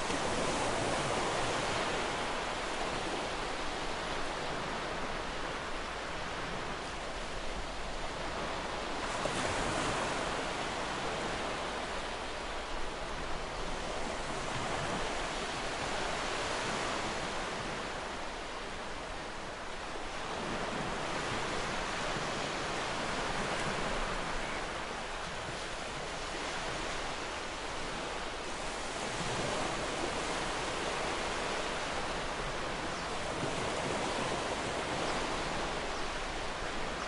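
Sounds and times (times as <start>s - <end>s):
ocean surf on sandy beach: 0.0s - 37.0s.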